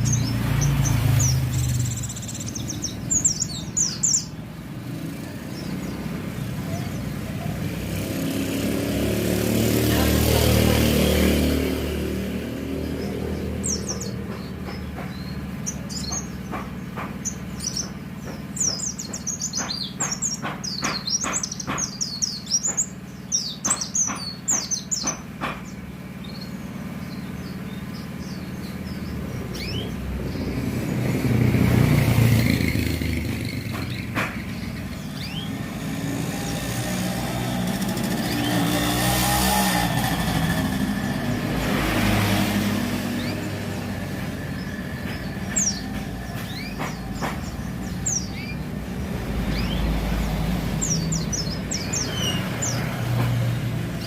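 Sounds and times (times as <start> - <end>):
bird singing high chirps: 0.0 - 8.2, 12.8 - 31.2, 32.2 - 41.4, 42.8 - 52.9
road traffic: 0.0 - 54.0
vehicles passing close by: 0.0 - 54.0.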